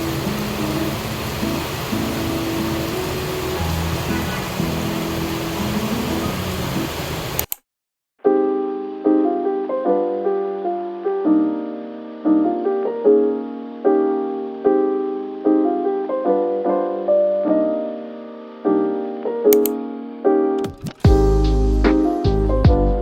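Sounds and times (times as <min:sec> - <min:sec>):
soft piano melody: 0:00.0 - 0:07.3, 0:08.2 - 0:23.0.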